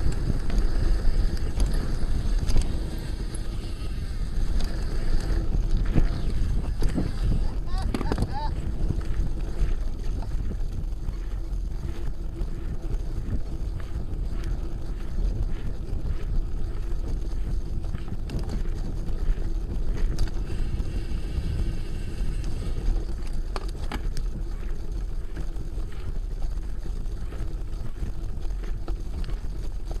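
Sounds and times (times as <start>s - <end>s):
mountain bike rolling on trail: 0.0s - 30.0s
wind buffeting microphone: 0.0s - 30.0s.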